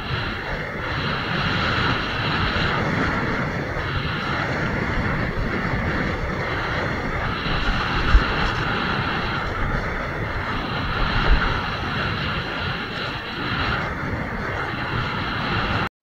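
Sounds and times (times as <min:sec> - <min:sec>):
water hissing and splashing: 0:00.0 - 0:15.9
wind buffeting microphone: 0:00.0 - 0:15.9.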